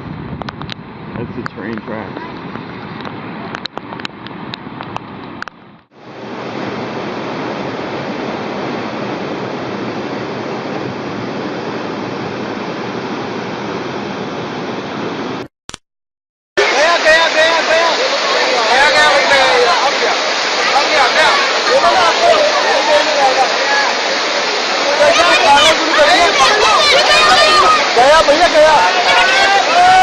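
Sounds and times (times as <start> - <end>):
floodwater rushing: 0.7 - 15.5, 16.6 - 30.0.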